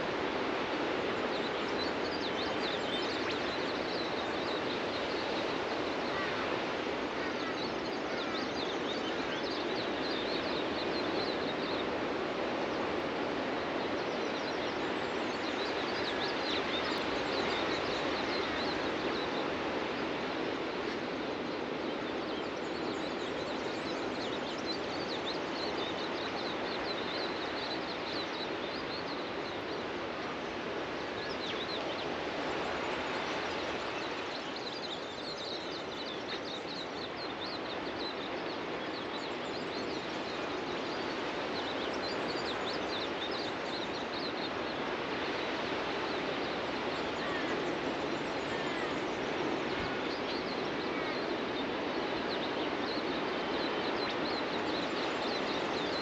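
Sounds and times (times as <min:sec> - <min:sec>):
ocean surf on a beach: 0:00.0 - 0:56.0
birds chirping: 0:00.2 - 0:56.0.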